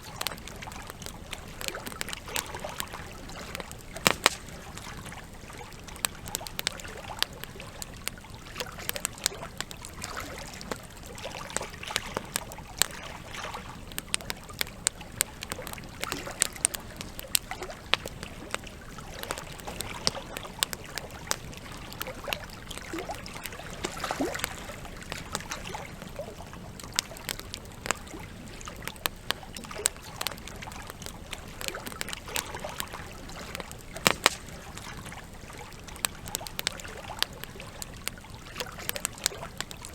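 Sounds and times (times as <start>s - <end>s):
campfire crackling and popping: 0.0s - 39.9s
trickling water: 0.0s - 39.9s.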